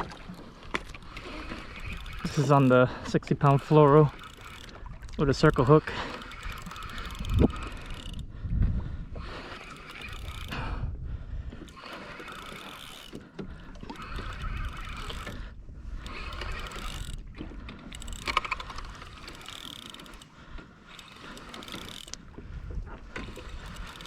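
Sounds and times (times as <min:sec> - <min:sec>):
fishing reel whirring: 0:00.0 - 0:10.7, 0:11.5 - 0:24.0.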